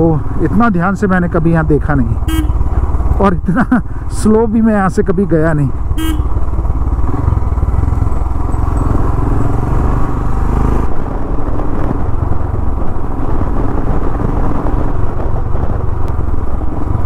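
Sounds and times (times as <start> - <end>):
motorcycle engine running: 1.9 - 17.0.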